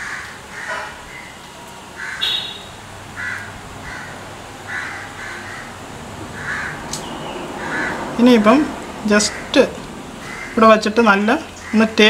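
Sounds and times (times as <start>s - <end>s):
crows cawing: 0.0s - 10.8s, 11.5s - 12.0s.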